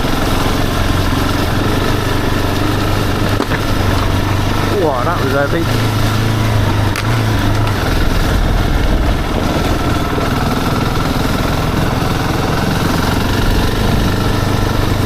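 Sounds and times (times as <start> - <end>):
rushing noise: 0.0 - 15.0
single-cylinder engine running: 0.0 - 15.0.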